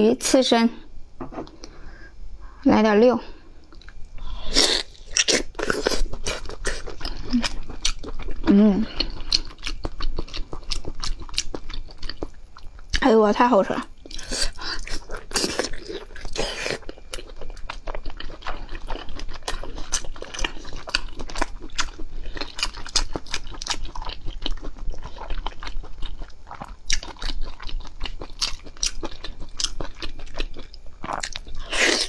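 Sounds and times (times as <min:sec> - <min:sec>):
wet chewing and mouth smacks: 0:03.6 - 0:04.2, 0:04.8 - 0:13.0, 0:14.0 - 0:32.0.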